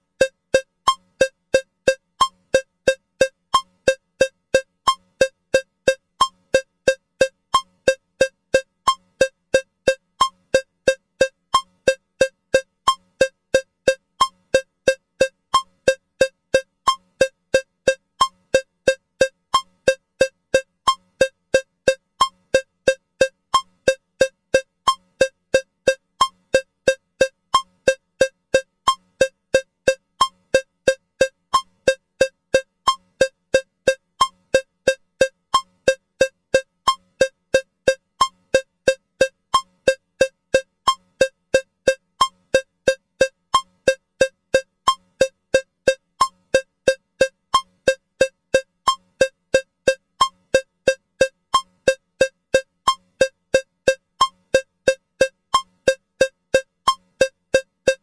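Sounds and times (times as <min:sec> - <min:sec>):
metronome cowbell clicks: 0:00.0 - 0:58.0.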